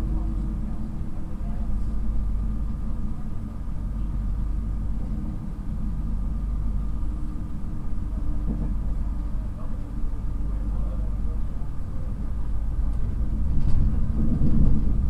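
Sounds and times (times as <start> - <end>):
train rumbling at speed: 0.0 - 15.0.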